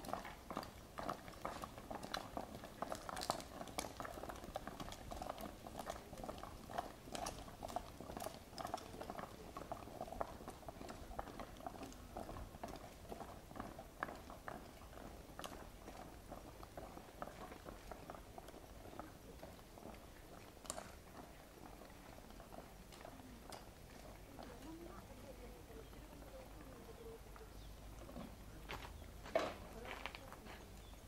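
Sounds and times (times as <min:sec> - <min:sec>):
footsteps on stone and gravel: 0:00.0 - 0:31.0.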